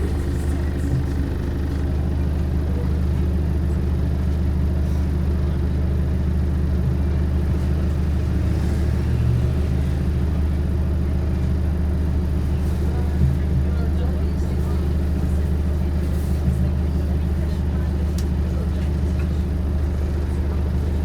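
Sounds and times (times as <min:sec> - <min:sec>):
bus drivetrain droning: 0:00.0 - 0:21.0.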